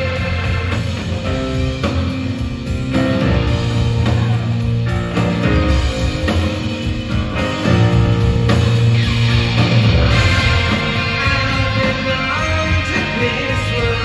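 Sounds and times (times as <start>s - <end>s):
bass: 0.0s - 14.0s
drum kit: 0.0s - 14.0s
electric guitar: 0.0s - 14.0s
keyboards: 0.0s - 14.0s.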